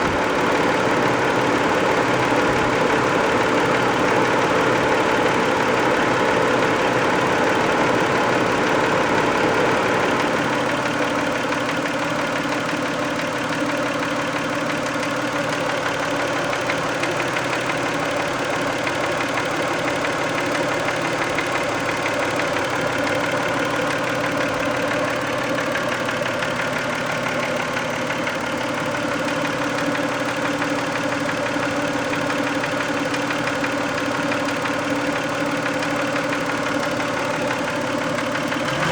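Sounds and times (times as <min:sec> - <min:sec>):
rapid engine knock: 0:00.0 - 0:38.8
car engine idling: 0:00.0 - 0:38.9.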